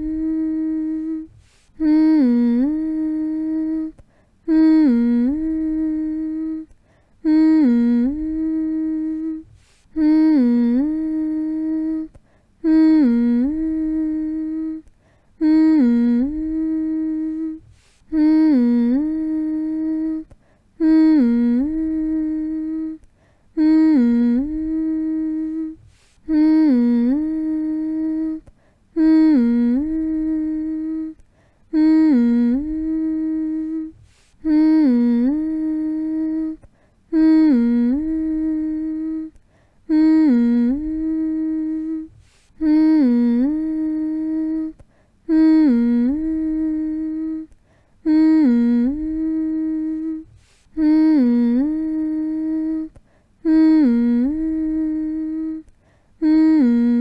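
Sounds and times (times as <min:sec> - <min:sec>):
person humming low note: 0:00.0 - 0:57.0.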